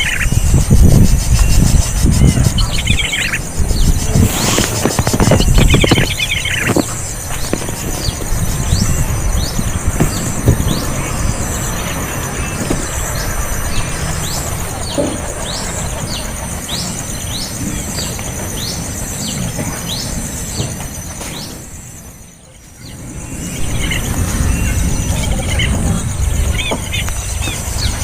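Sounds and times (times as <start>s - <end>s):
small bird chirping: 0.0s - 28.0s.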